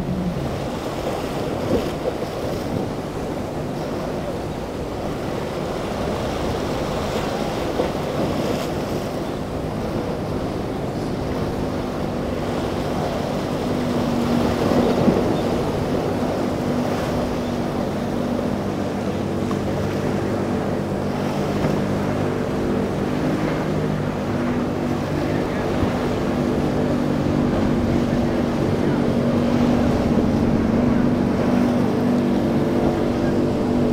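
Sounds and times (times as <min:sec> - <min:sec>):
boat engine humming: 0:00.0 - 0:33.9
rush of water: 0:00.0 - 0:33.9
waves breaking: 0:00.0 - 0:33.9
wind on microphone: 0:00.0 - 0:33.9.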